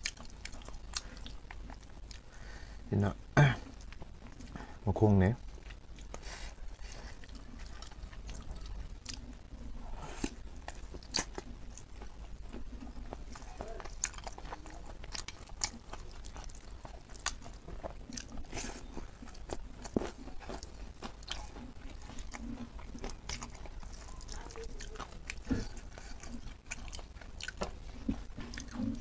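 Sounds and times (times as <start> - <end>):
chewing meat: 0.0 - 2.8, 3.6 - 4.8, 5.4 - 29.0.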